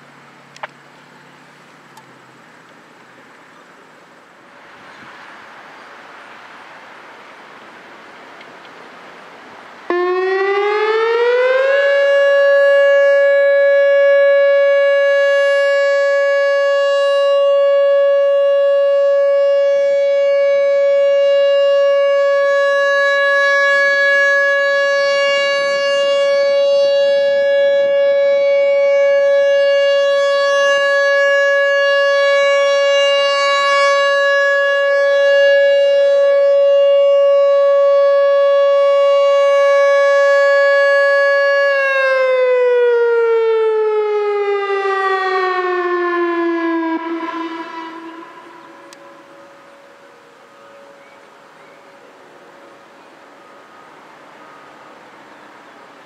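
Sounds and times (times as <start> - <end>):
tornado siren steady tone: 0.0 - 56.0.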